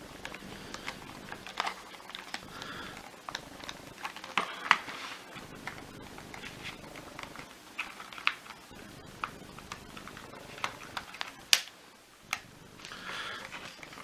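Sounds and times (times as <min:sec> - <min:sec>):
plastic parts clicking and tapping: 0:00.1 - 0:14.0.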